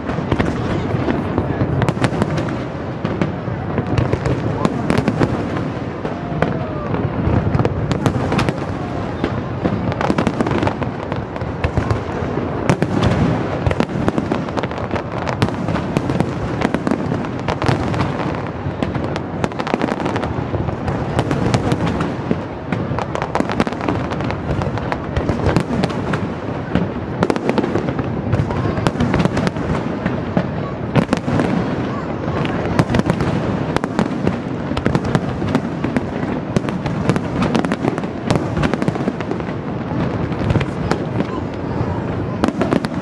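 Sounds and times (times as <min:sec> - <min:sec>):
firework bangs and crackle: 0:00.0 - 0:43.0.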